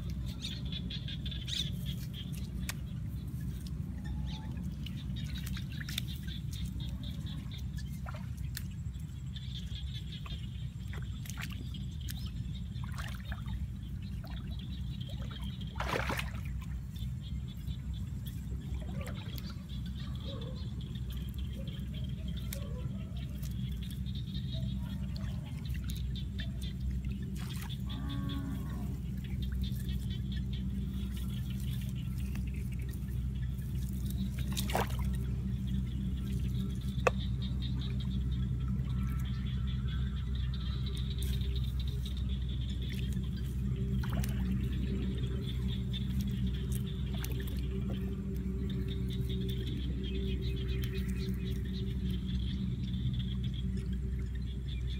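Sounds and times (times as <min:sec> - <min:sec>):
grass rustling: 0:00.0 - 0:54.9
steady low rumble: 0:00.0 - 0:54.9
small water splashes: 0:01.4 - 0:39.4, 0:40.4 - 0:54.9.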